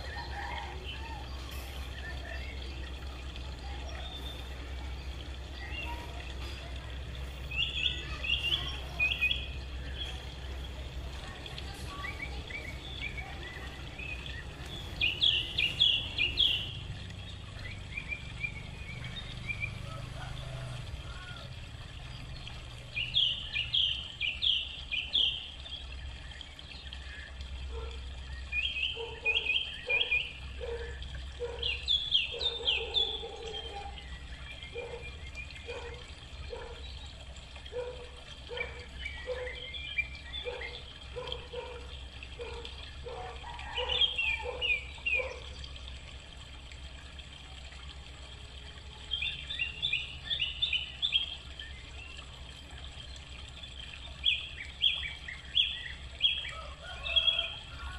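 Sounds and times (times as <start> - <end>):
birds chirping: 0.0 - 46.7, 47.9 - 57.9.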